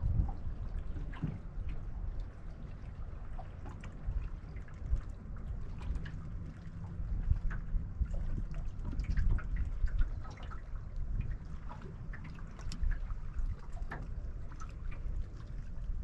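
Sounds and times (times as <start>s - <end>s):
waves lapping against boat hull: 0.0s - 16.0s
wind on microphone: 0.0s - 16.0s.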